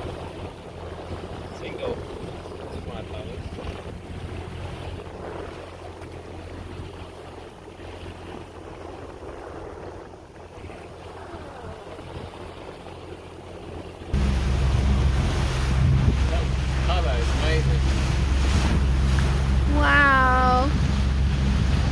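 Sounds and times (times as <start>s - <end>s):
motorboat engine humming: 0.0s - 21.9s
water noise: 0.0s - 21.9s
wind on microphone: 0.0s - 21.9s.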